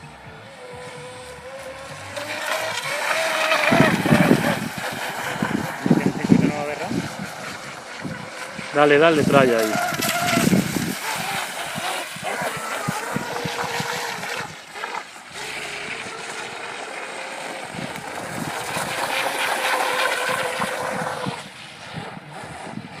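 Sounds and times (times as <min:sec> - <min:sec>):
model boat engine whine: 0:00.0 - 0:23.0.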